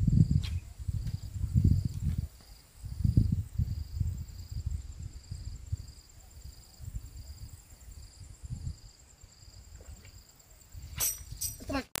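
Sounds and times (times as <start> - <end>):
insects trilling: 0.0 - 11.9.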